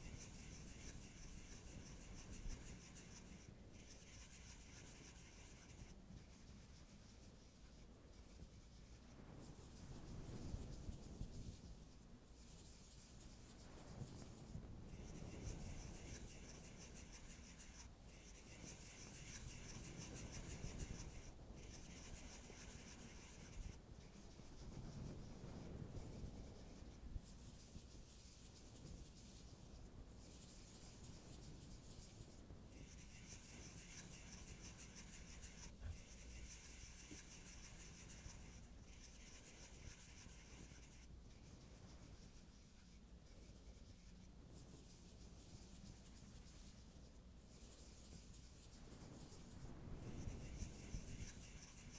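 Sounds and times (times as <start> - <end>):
fingertips rubbing on skin: 0.0 - 51.9
soft high hiss: 0.0 - 51.9.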